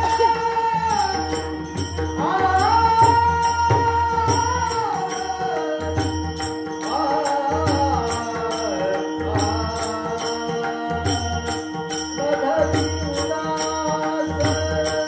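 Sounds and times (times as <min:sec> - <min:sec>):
percussion beat: 0:00.0 - 0:15.0.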